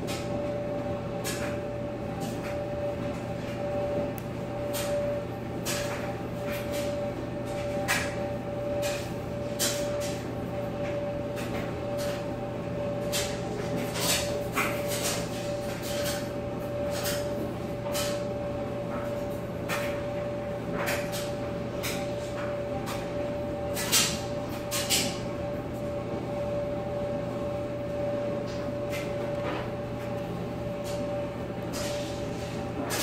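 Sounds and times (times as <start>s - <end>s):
machine hum: 0.0s - 33.0s.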